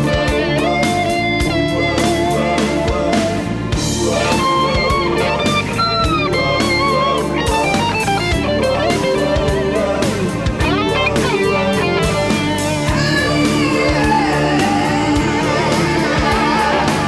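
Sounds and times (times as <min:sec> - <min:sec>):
drums: 0:00.0 - 0:17.0
electric guitar lead line: 0:00.0 - 0:17.0.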